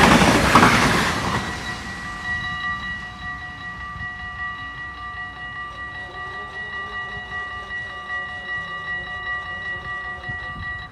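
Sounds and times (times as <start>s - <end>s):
level crossing bell ringing: 0.6s - 10.9s.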